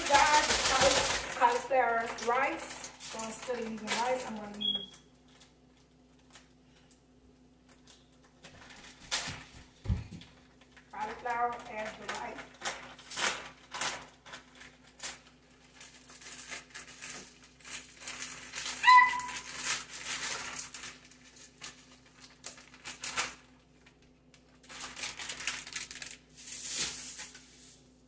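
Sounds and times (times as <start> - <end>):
plastic bag crinkling: 0.0 - 7.0, 7.6 - 28.0.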